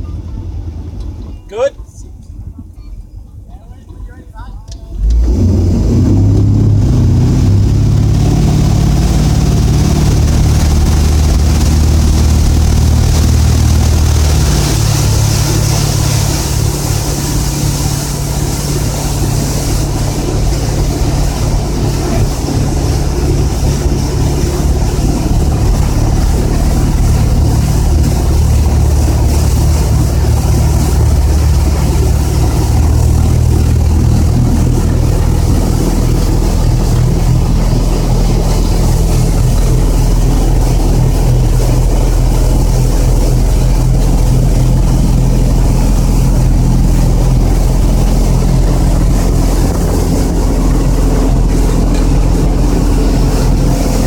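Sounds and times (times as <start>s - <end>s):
boat engine running hard: 0.0s - 54.0s
churning wake: 0.0s - 54.0s.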